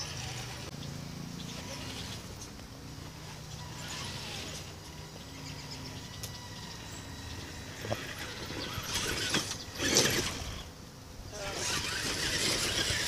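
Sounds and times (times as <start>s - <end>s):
electric motor whining: 0.0s - 0.7s, 1.4s - 13.0s
tyres scraping over rocks: 1.4s - 10.7s, 11.3s - 13.0s.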